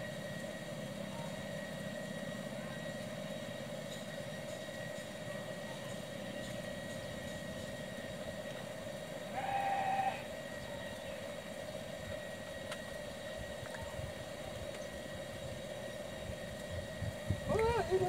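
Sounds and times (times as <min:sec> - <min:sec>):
faint high whine: 0:00.0 - 0:18.0
steady drone: 0:00.0 - 0:18.0.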